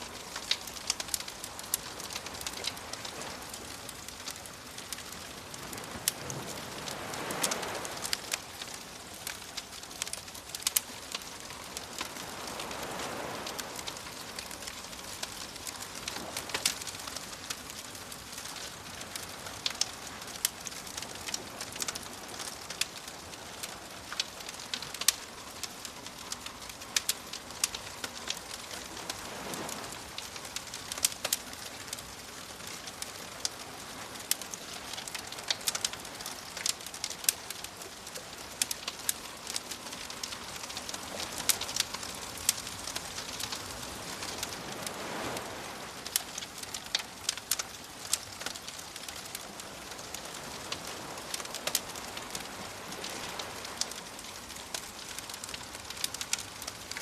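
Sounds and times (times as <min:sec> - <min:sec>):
waves washing in: 0:00.0 - 0:57.0
wood fire crackling: 0:00.0 - 0:57.0.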